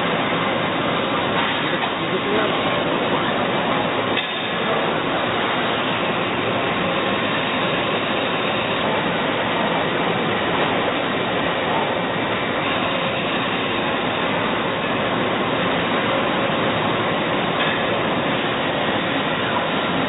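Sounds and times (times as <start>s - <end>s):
lathe running with faint whine: 0.0s - 20.0s.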